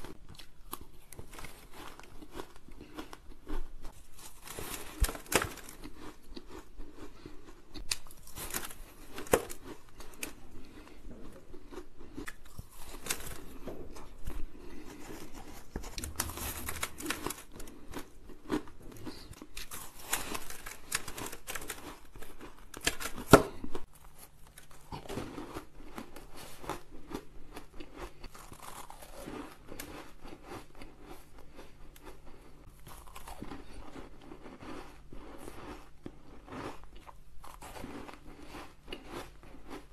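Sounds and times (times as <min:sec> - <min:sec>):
chewing crunchy shaved ice: 0:00.0 - 0:39.9.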